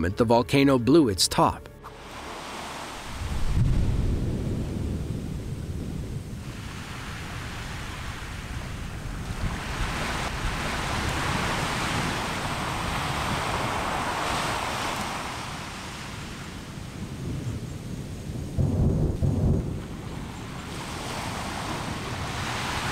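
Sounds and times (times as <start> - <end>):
volcanic eruption rushing hiss: 2.1 - 22.9
low eruption rumble: 3.0 - 13.8, 15.2 - 22.9.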